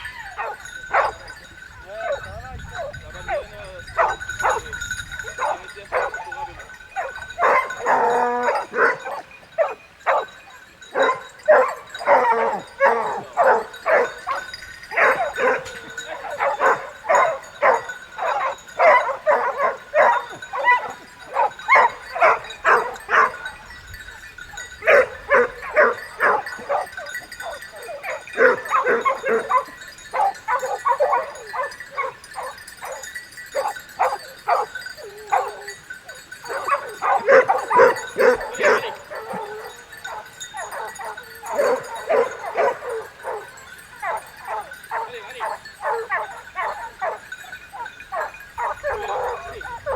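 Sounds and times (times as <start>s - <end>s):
dogs barking: 0.0s - 49.9s.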